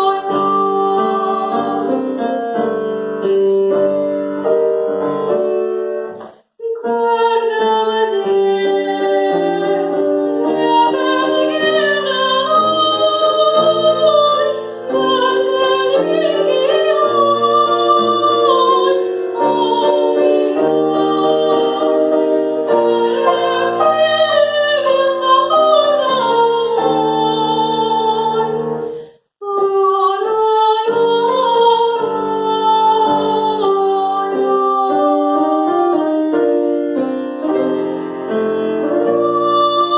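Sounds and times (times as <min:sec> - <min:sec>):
woman singing operatically: 0:00.0 - 0:02.3, 0:06.6 - 0:28.8, 0:29.4 - 0:36.2, 0:38.6 - 0:39.9
piano accompaniment: 0:00.0 - 0:39.9.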